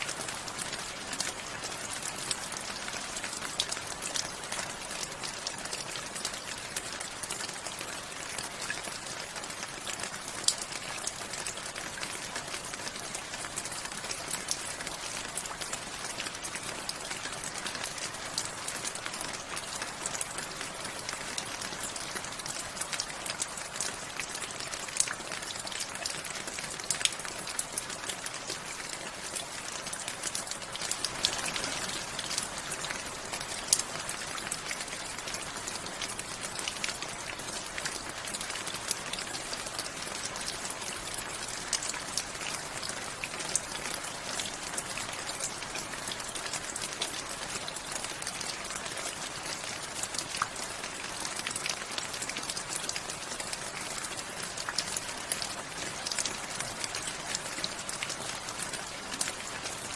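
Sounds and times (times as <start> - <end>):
raindrops pattering on surfaces: 0.0 - 59.9
steady rain falling: 0.0 - 59.9.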